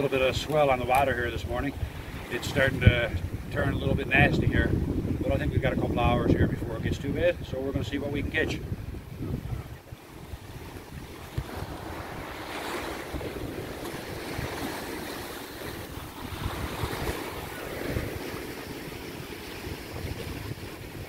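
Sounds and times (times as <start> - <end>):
sea waves on rocky shore: 0.0 - 21.0
wind buffeting microphone: 0.0 - 21.0.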